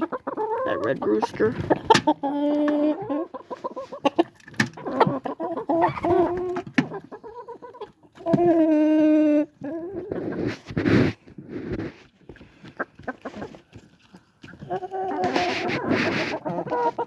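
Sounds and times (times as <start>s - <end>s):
long drawn-out chicken calls: 0.0s - 10.6s, 12.6s - 17.0s
chickens clucking: 0.0s - 17.0s.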